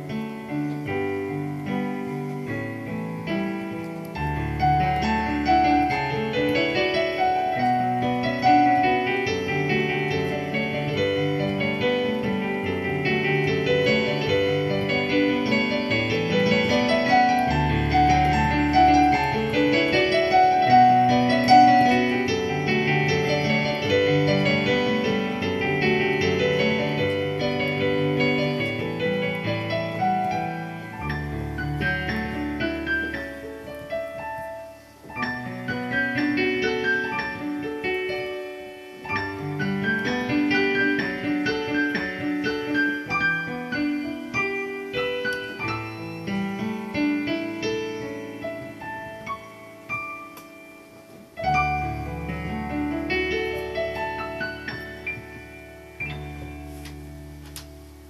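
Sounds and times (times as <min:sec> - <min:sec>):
piano playing: 0:00.0 - 0:58.0.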